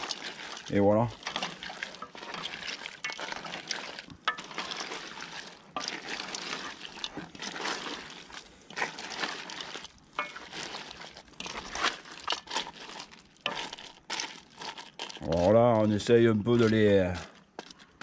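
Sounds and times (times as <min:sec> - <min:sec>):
shells crunching and rustling: 0:00.0 - 0:18.0
spoon stirring crayfish in pot: 0:00.0 - 0:18.0.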